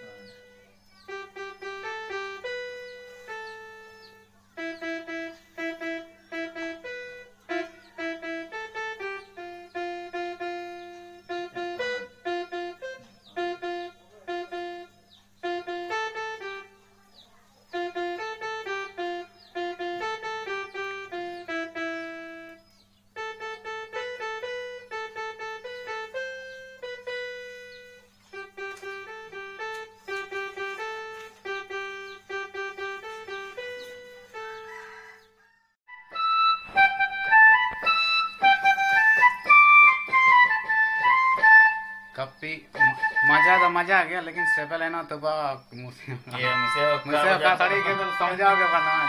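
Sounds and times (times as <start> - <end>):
electronic keyboard piano melody: 0.0 - 49.0.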